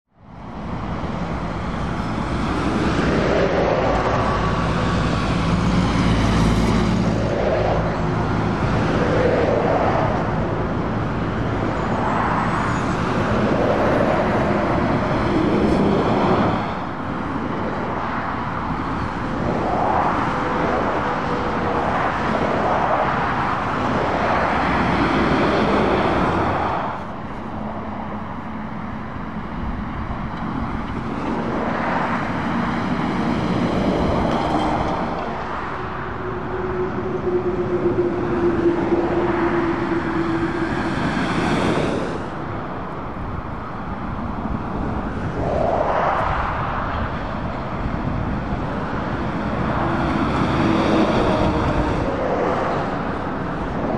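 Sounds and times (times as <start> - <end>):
lorries and cars passing: 0.1 - 53.9
lorry engine droning low: 0.2 - 53.9.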